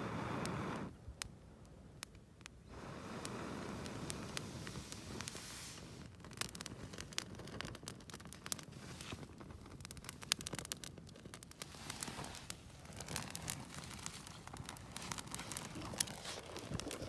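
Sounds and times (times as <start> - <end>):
rustling and handling noise: 3.2 - 17.0.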